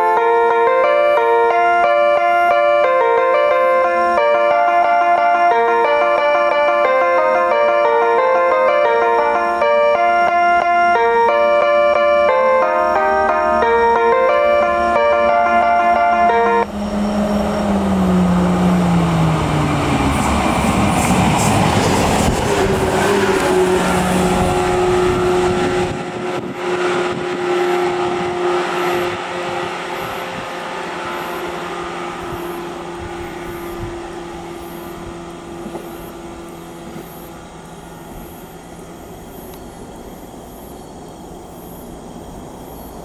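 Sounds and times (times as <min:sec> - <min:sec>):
diesel engine hum: 0:00.0 - 0:40.4
train wheels rumbling on rail: 0:01.4 - 0:43.0.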